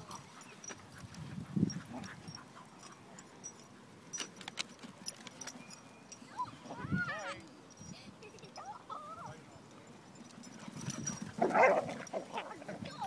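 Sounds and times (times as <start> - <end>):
metallic jingling: 0.0 - 13.0.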